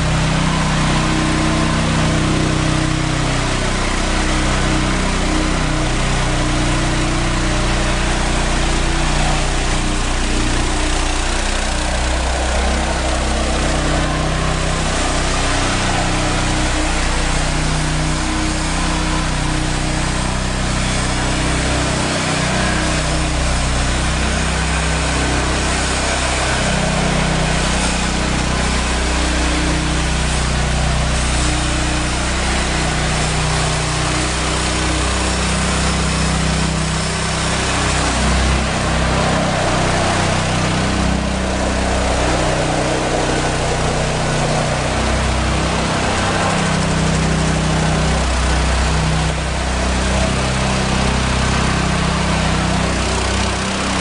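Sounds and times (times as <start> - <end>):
loud steady rushing noise: 0.0 - 54.0
motor low hum: 0.0 - 54.0.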